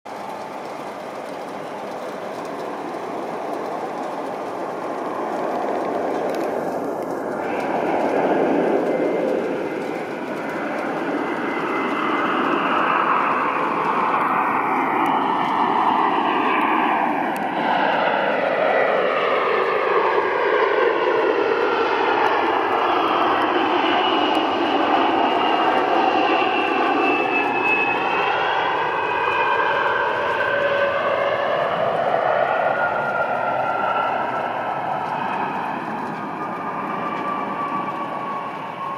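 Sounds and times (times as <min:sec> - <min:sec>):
jet airliner engines whining: 0:00.1 - 0:38.9.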